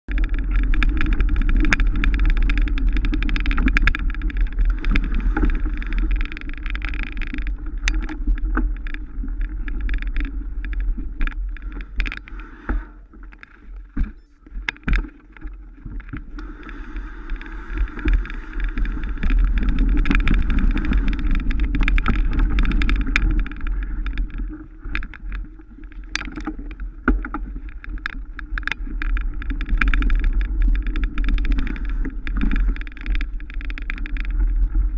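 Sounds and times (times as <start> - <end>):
wind rumble on microphone: 0.0 - 34.9
bike rattling over bumps: 0.1 - 34.9
tyre and trail noise: 0.1 - 34.9.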